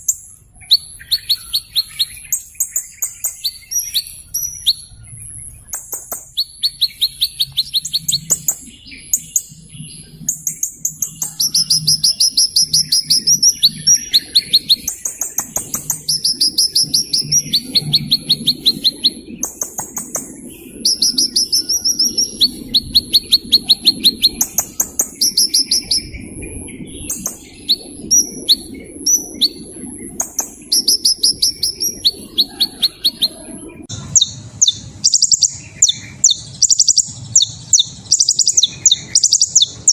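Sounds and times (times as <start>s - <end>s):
small bird singing ticking trills: 0.0s - 39.9s.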